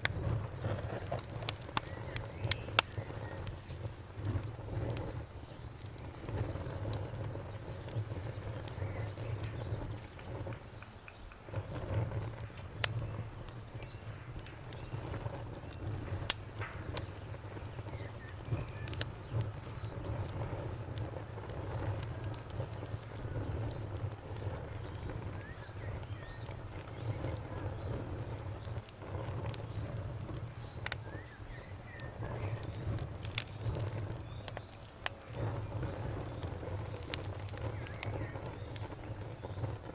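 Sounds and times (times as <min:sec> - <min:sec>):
campfire crackling and popping: 0:00.0 - 0:39.9
crickets chirping: 0:00.1 - 0:39.9.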